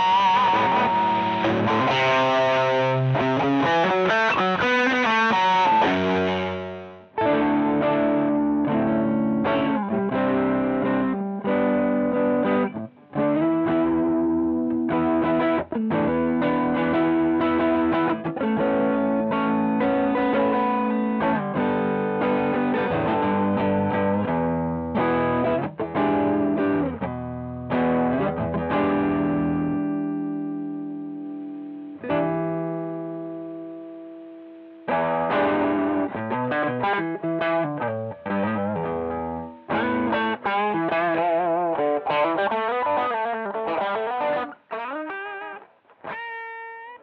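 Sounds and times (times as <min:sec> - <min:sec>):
overdriven electric guitar riffs: 0:00.0 - 0:47.0.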